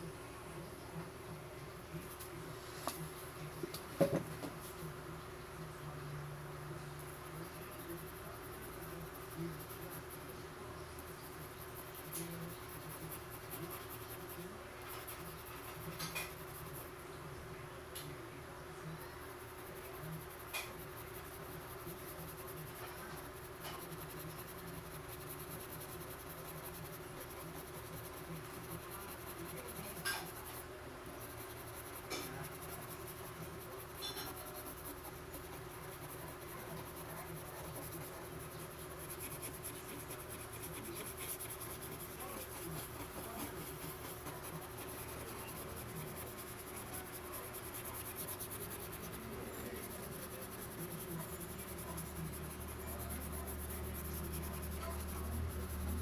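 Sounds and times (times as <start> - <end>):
steady hum: 0.0 - 56.0
bristle brush scrubbing paper: 6.9 - 10.4, 11.0 - 16.9, 19.4 - 56.0.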